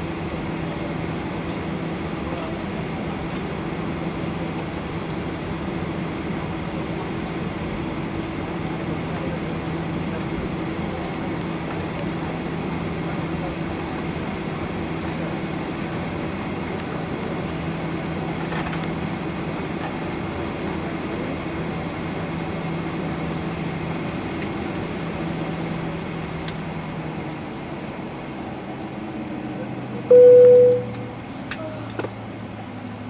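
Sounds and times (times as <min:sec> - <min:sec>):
airliner cabin hum and hiss: 0:00.0 - 0:33.0.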